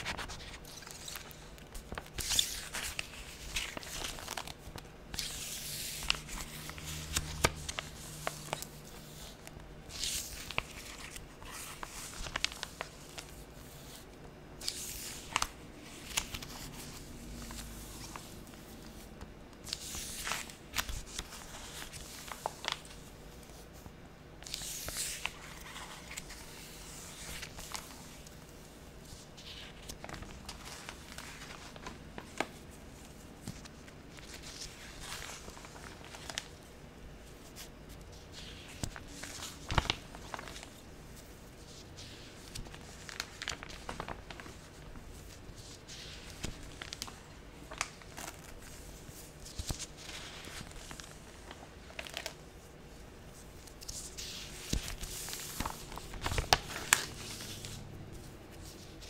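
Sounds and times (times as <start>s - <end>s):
paper pages flipping: 0.0s - 14.0s, 14.6s - 59.0s.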